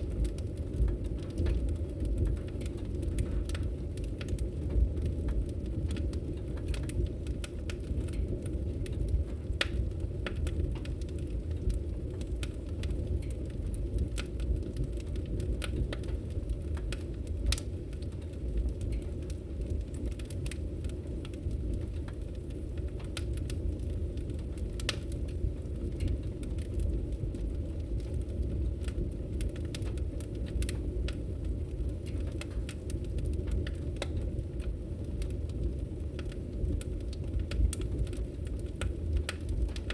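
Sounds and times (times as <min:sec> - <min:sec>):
fire crackling with sharp pops: 0:00.0 - 0:39.9.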